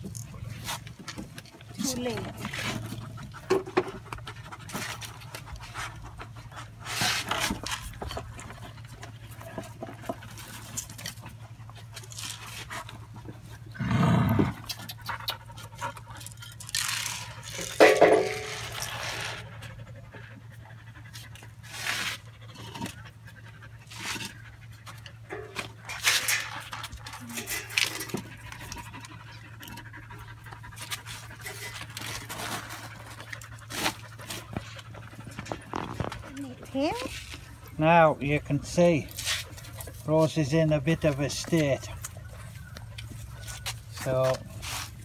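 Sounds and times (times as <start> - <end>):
dogs panting and snuffling: 0.0 - 45.0.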